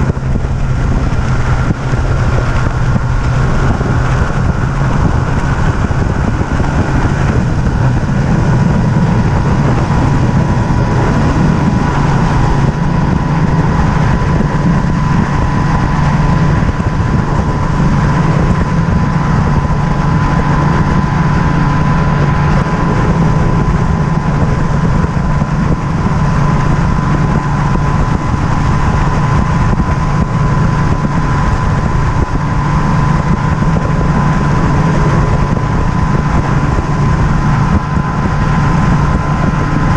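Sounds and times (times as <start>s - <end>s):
outboard motor running: 0.0s - 39.9s
rush of wind and water: 0.0s - 39.9s
thin steady whine: 0.0s - 39.9s.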